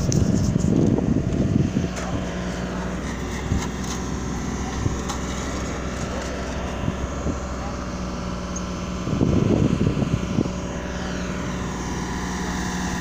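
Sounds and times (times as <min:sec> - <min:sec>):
wind buffeting microphone: 0:00.0 - 0:06.0, 0:06.6 - 0:12.4
engine hum: 0:00.0 - 0:13.0.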